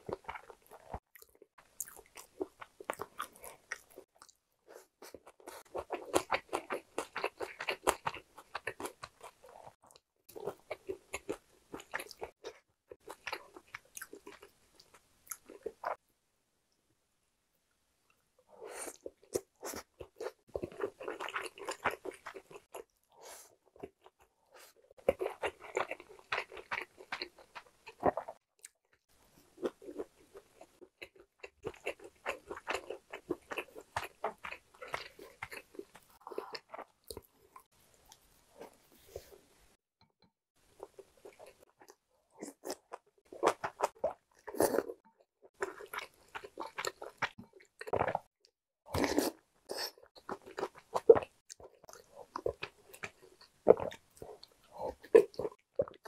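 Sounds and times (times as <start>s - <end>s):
person chewing crunchy food: 0.0s - 16.0s, 18.6s - 39.4s, 40.6s - 56.0s.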